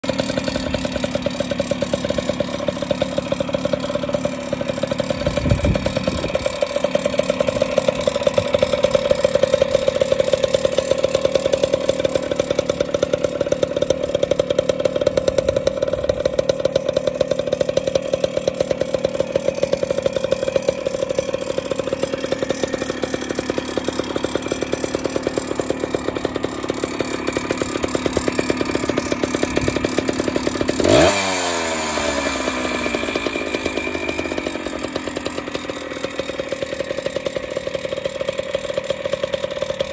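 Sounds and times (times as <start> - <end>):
two-stroke motorcycle engine idling: 0.0 - 39.9.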